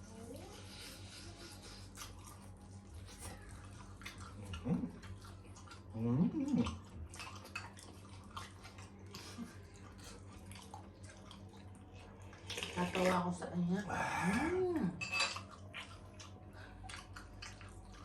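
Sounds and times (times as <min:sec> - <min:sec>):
wet chewing and mouth smacking: 0:01.4 - 0:13.2, 0:15.3 - 0:18.0.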